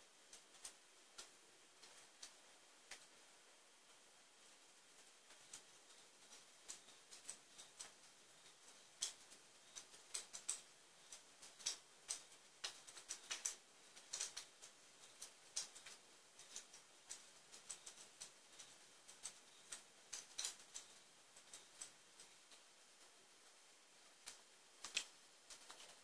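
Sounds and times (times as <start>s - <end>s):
fireplace crackling: 0.0s - 26.0s
low hiss: 0.0s - 26.0s.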